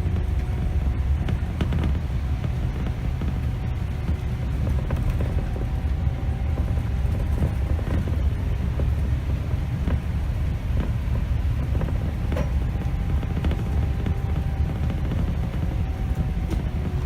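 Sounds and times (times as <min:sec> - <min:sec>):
bus diesel engine rumble: 0:00.0 - 0:17.0
road noise: 0:00.0 - 0:17.0.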